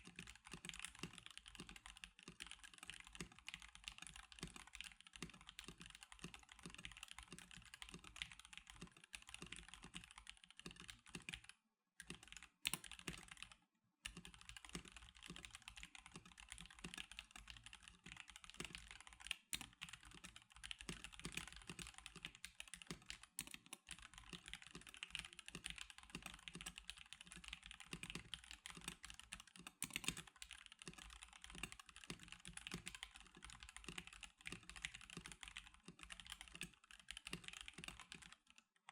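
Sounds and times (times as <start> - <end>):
mechanical keyboard typing: 0.0 - 38.6.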